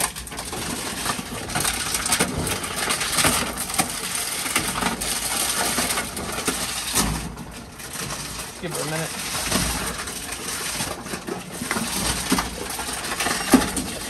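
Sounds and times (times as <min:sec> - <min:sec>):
machine crushing plastic bottles: 0:00.0 - 0:14.0.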